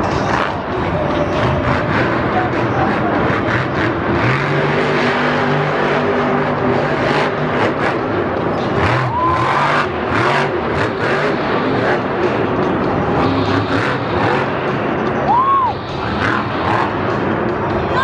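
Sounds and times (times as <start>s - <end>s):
monster truck engine revving: 0.0s - 17.9s.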